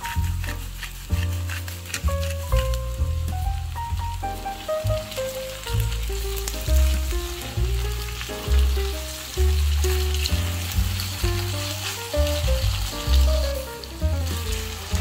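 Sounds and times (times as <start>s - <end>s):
background music with bass: 0.0s - 15.0s
potatoes sizzling in a frying pan: 0.0s - 15.0s.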